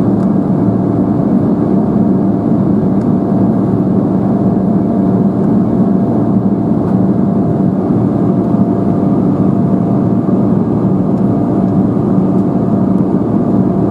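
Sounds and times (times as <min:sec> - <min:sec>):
aircraft cabin engine drone: 0:00.0 - 0:13.9
faint constant whine: 0:00.0 - 0:13.9.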